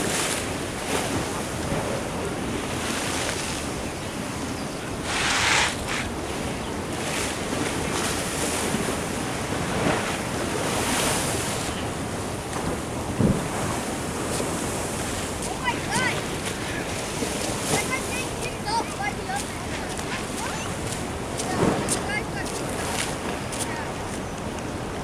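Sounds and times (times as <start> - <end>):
surf washing against a sea wall: 0.0 - 25.0
wind buffeting the microphone: 0.0 - 25.0.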